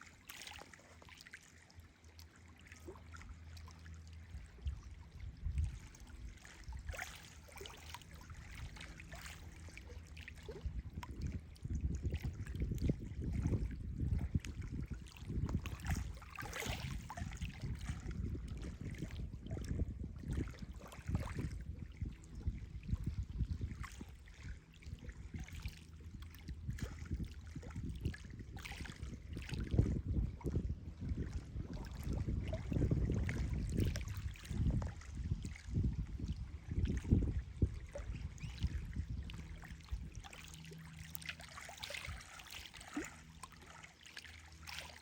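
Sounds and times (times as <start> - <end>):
small waves lapping on shore: 0.0 - 45.0
low rumbling wash: 1.6 - 45.0.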